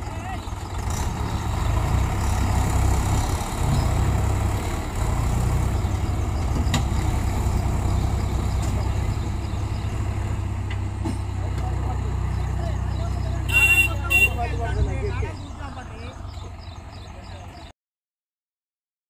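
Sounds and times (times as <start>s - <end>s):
tractor diesel engine under load: 0.0s - 17.7s.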